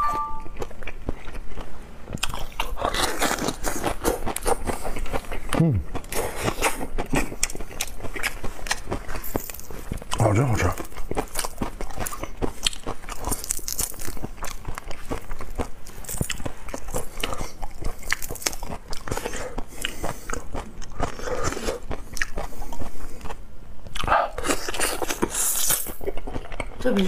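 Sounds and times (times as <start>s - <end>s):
chewing: 0.4s - 27.0s.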